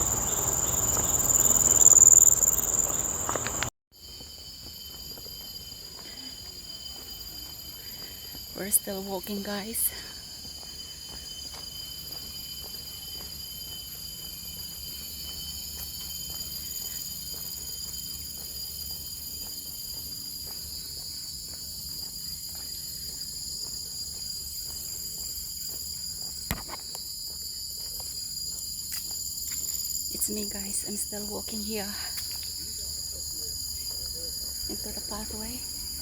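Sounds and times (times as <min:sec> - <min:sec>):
faint footsteps on a path: 0:00.0 - 0:36.0
insects chorus: 0:00.0 - 0:36.0.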